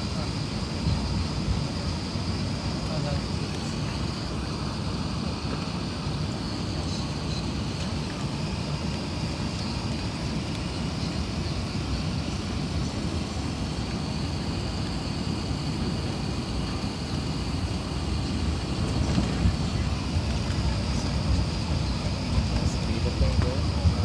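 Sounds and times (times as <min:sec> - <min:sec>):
airflow rush in airliner cabin: 0:00.0 - 0:24.0.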